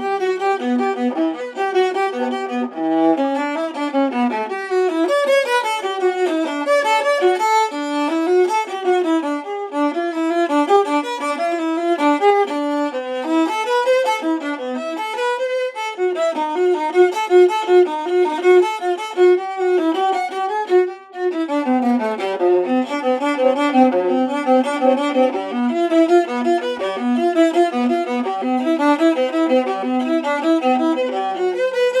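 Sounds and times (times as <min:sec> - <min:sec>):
bowed viola melody: 0:00.0 - 0:32.0.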